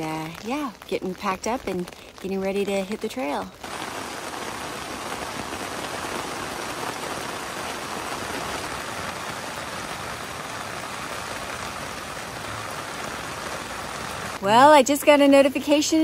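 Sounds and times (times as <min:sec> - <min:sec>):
rain on a tent: 0:00.0 - 0:16.0.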